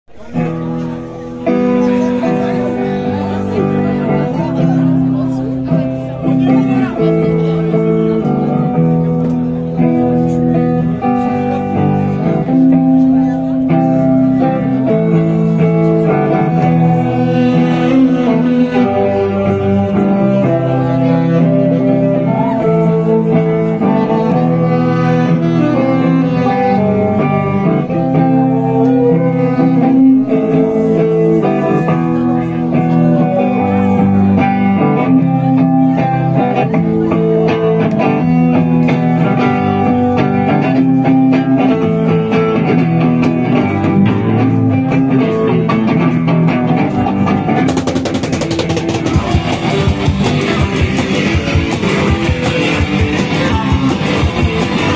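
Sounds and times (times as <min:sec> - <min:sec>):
rock band playing: 0:00.1 - 0:54.9.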